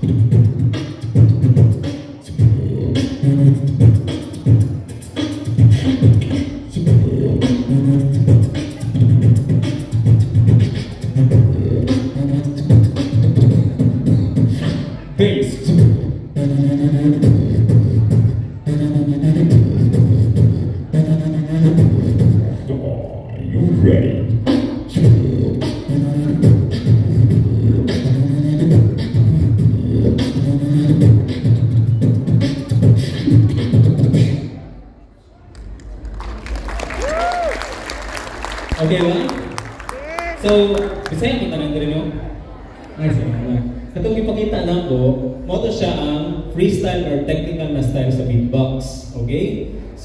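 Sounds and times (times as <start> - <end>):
person beatboxing into microphone: 0.0 - 34.8, 38.6 - 50.0.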